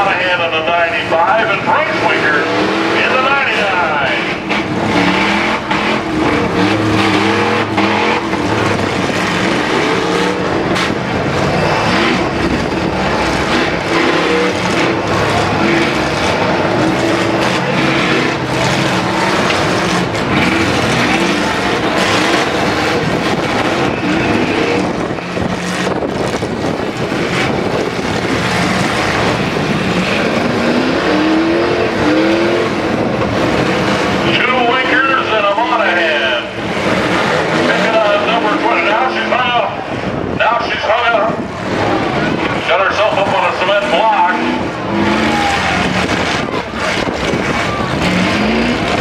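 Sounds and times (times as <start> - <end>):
truck engines revving: 0.0 - 49.0.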